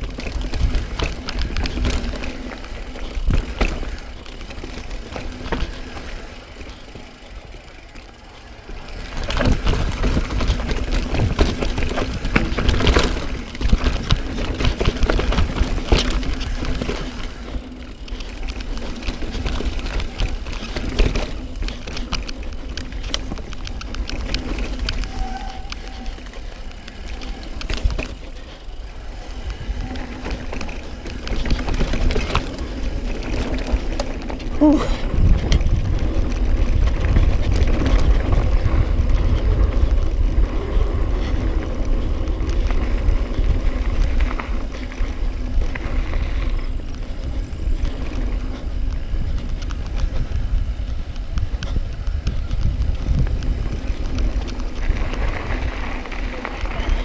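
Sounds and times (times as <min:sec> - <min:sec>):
bike rattling over bumps: 0:00.0 - 0:57.0
bike tyres on dirt: 0:00.0 - 0:57.0
wind rumbling on microphone: 0:00.0 - 0:57.0.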